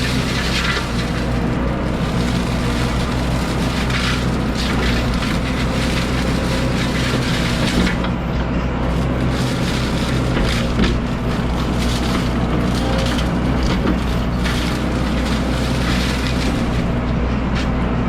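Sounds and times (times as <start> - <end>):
mulcher grinding brush: 0.0 - 17.8
wood shredding and crackling: 0.0 - 17.8
excavator engine running: 0.0 - 18.0.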